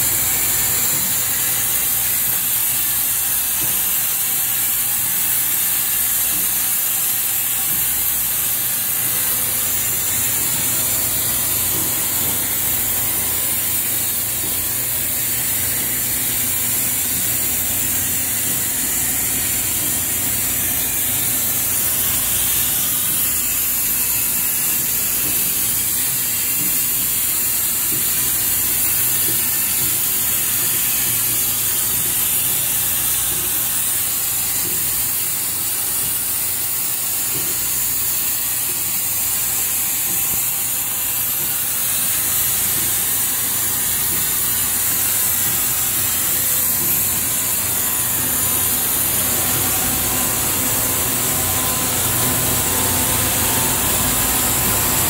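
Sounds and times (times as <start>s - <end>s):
machine hiss with low hum: 0.0s - 55.0s.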